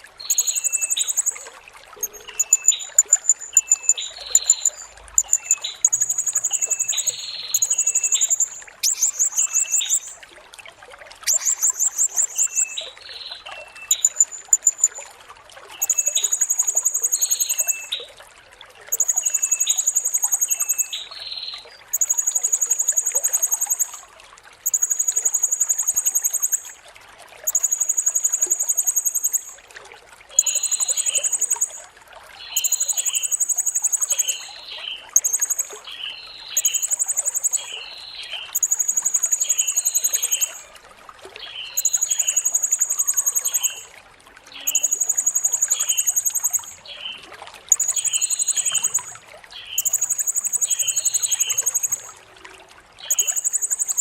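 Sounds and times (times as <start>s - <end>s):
water trickling: 0.0s - 54.0s
bird chirps: 0.2s - 10.2s, 11.2s - 15.0s, 15.8s - 18.1s, 18.9s - 24.0s, 24.6s - 26.7s, 27.4s - 29.6s, 30.4s - 31.8s, 32.4s - 40.7s, 41.5s - 43.9s, 44.5s - 52.1s, 53.0s - 54.0s.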